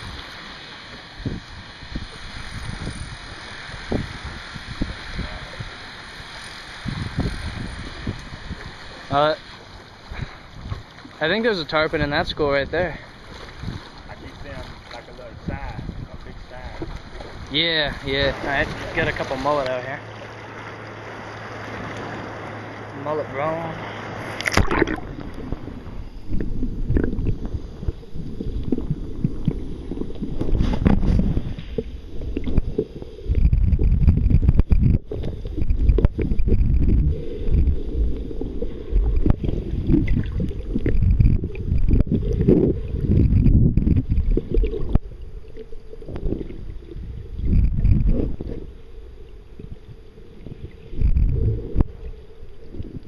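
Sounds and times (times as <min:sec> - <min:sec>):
wind buffeting microphone: 0:01.1 - 0:06.0, 0:06.7 - 0:09.4, 0:10.0 - 0:19.7, 0:23.5 - 0:45.2, 0:46.0 - 0:48.8, 0:49.4 - 0:53.0.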